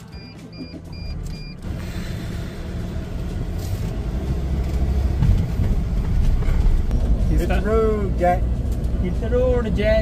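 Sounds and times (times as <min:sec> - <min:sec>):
van engine and road rumble: 0:00.0 - 0:10.0.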